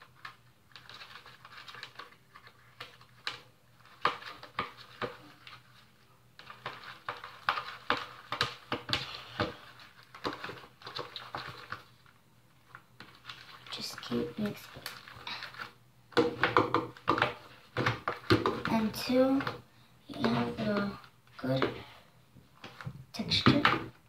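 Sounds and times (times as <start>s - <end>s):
slime stirred and scraped: 0.0s - 24.0s.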